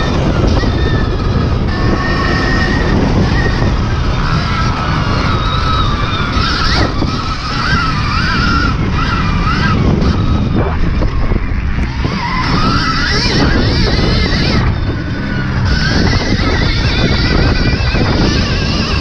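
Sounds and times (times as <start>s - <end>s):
electric dirt bike motor whining: 0.0s - 19.0s
wind rumble: 0.0s - 19.0s.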